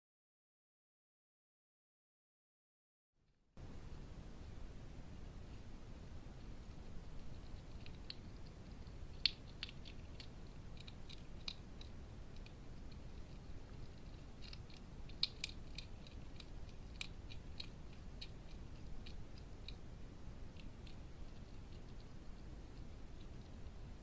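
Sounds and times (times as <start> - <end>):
hedgehog chewing food: 3.6 - 24.0
steady low hiss: 3.6 - 24.0.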